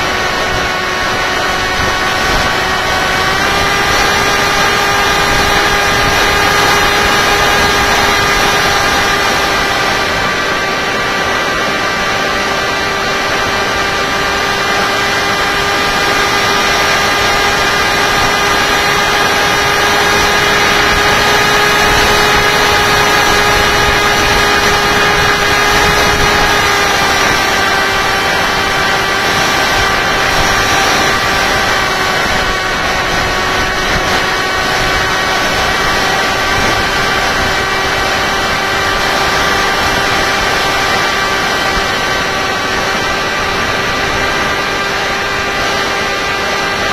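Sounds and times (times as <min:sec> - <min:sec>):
electric motor high whine: 0:00.0 - 0:46.9
rushing air: 0:00.0 - 0:46.9.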